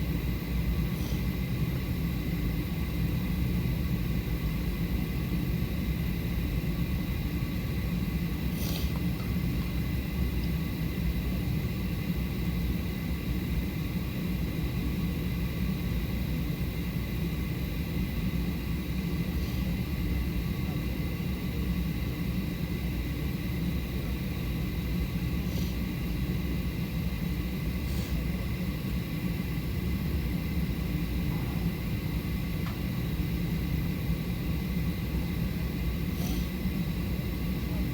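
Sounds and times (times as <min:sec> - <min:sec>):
jet engines idling: 0:00.0 - 0:37.9.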